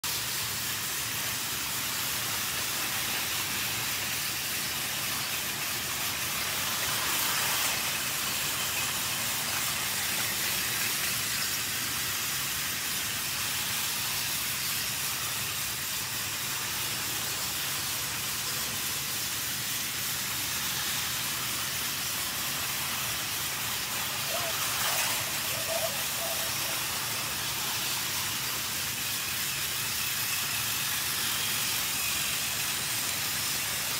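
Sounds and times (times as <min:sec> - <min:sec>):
toy train motor whirring: 0:00.0 - 0:33.9.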